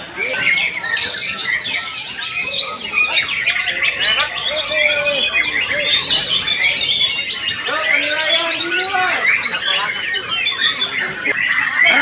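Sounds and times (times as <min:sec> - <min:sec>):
birds singing in chorus: 0:00.0 - 0:12.0.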